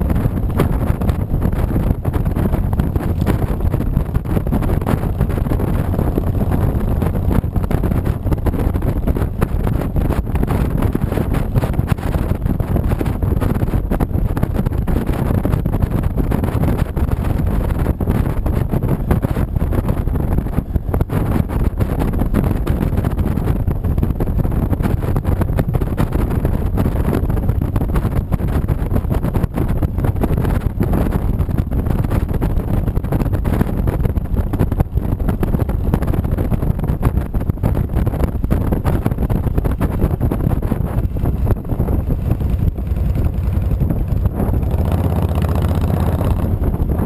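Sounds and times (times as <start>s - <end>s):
motorcycle engine cruising: 0.0s - 47.0s
wind rush on microphone: 0.0s - 47.0s.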